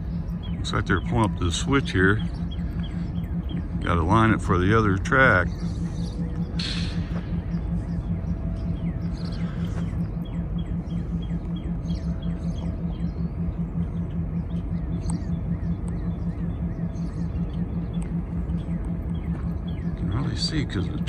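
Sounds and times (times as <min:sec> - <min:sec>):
distant diesel locomotive rumble: 0:00.0 - 0:21.0.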